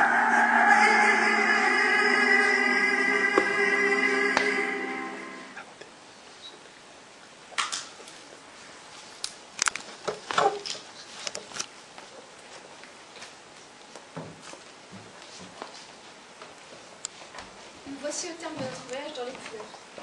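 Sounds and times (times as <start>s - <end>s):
faint room hiss: 0.0s - 20.0s.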